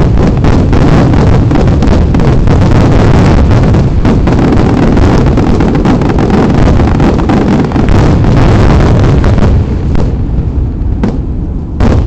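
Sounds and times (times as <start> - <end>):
fireworks barrage: 0.0 - 12.0.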